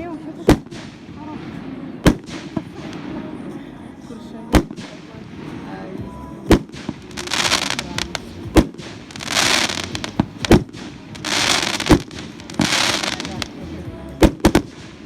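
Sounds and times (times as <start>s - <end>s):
fireworks bangs: 0.0s - 15.0s
fireworks hissing: 0.0s - 15.0s.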